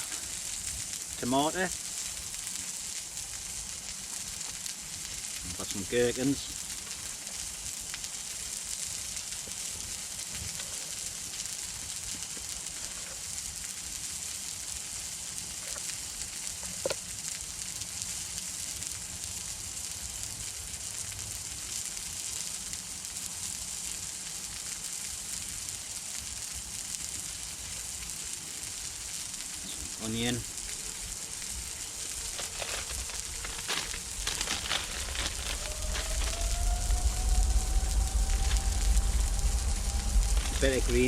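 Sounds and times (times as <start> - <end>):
patty sizzling over a campfire: 0.0 - 41.0.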